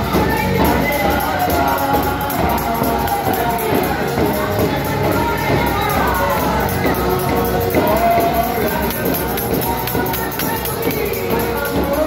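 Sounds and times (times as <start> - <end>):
congregation singing: 0.0 - 12.0
tambourine jingling: 0.0 - 12.0.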